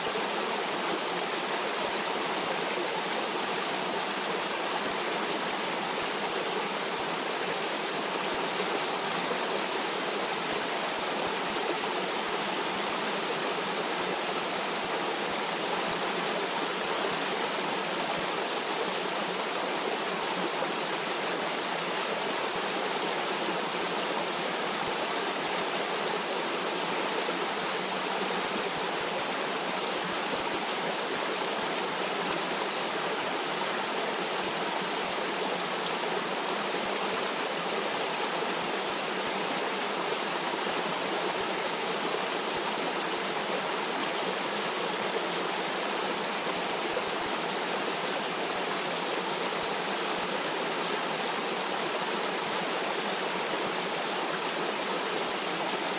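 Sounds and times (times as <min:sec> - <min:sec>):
stream water flowing: 0:00.0 - 0:55.9.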